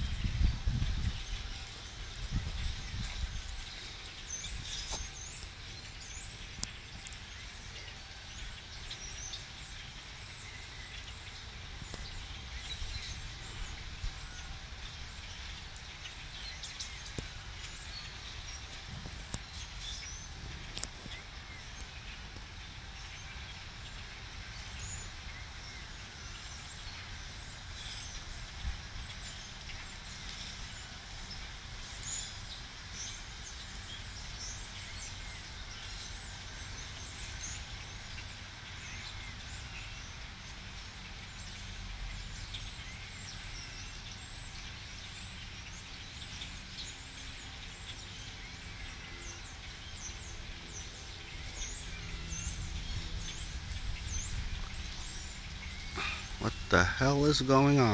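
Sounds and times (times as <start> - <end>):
flock of birds chirping: 0.0 - 57.9.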